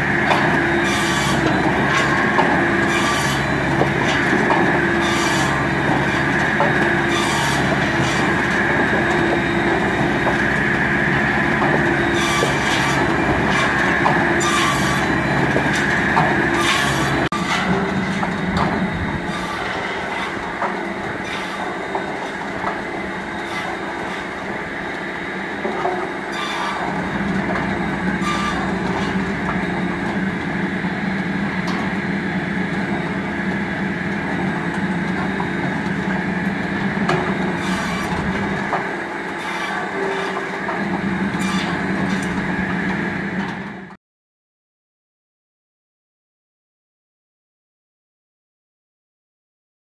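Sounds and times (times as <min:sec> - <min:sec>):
circular saw running: 0:00.0 - 0:43.4.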